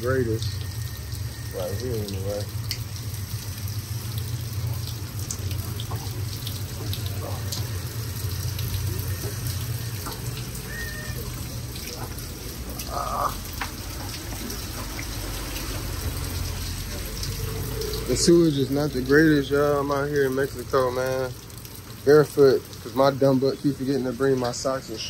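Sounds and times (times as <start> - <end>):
floodwater rushing over street: 0.0 - 25.0
low steady hum: 0.0 - 25.0
rain drips and patters: 0.0 - 25.0.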